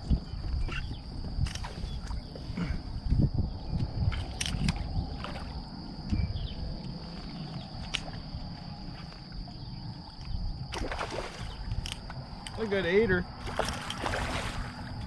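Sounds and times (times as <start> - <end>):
water around a hull: 0.0 - 15.0.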